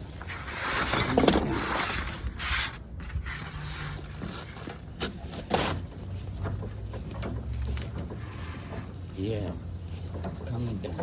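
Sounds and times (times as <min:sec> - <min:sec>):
spare tire scraping and rubbing: 0:00.0 - 0:10.9.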